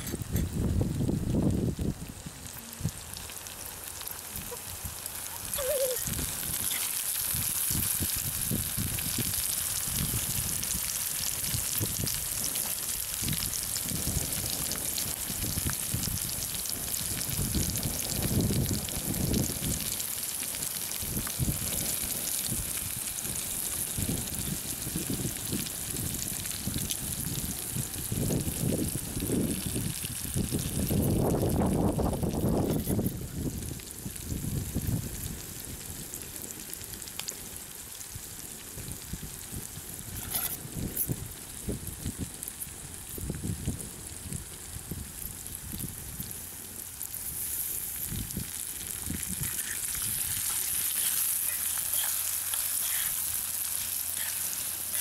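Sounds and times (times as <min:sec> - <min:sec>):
oil sizzling and crackling: 0:00.0 - 0:55.0.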